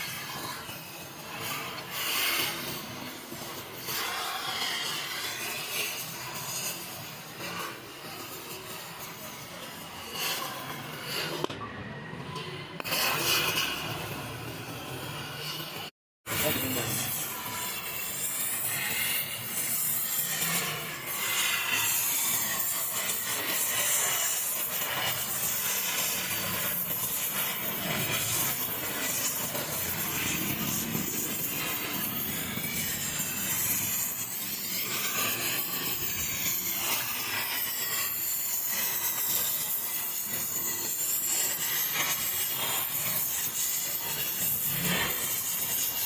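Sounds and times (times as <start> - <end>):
rasping scraping on metal: 0.0 - 11.5, 12.8 - 46.0.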